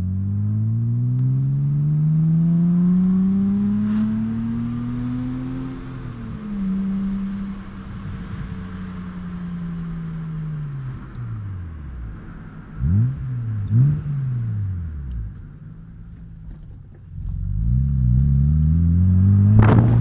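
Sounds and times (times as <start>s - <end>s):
car engine from inside cabin: 0.0s - 20.0s.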